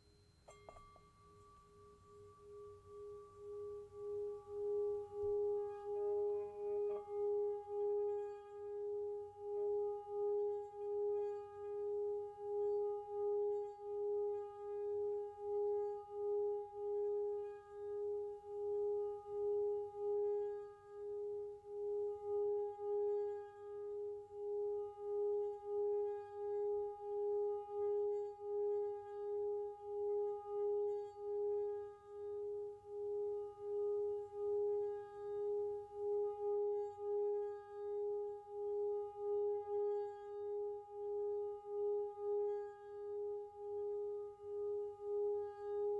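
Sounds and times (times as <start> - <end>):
singing bowl throbbing low tone: 0.0 - 45.9.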